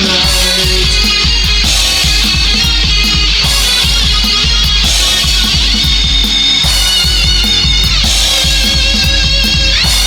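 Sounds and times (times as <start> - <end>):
bass: 0.0 - 10.0
distorted electric guitar riffing: 0.0 - 10.0
drum beat: 0.0 - 10.0.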